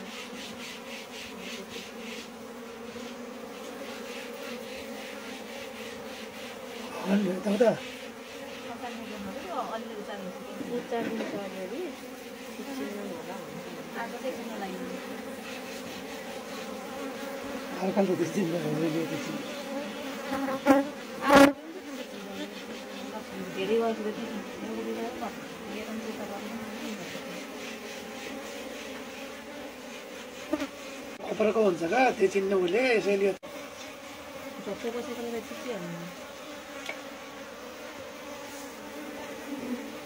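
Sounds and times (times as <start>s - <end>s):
honeybees humming: 0.0s - 40.0s
wavering loud bee buzz: 0.0s - 40.0s.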